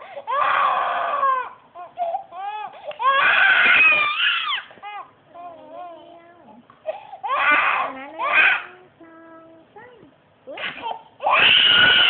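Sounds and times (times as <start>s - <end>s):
baby crying: 0.0s - 8.8s, 10.8s - 12.0s.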